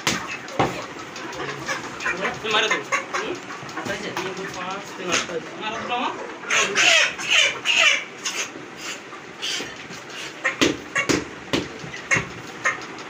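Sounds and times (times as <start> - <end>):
chickens squawking: 0.0 - 13.0.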